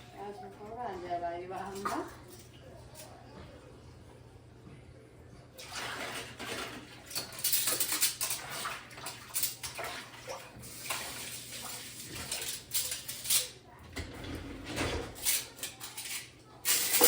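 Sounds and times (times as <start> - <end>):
tap water running onto dishes: 0.0 - 3.6, 5.6 - 17.0.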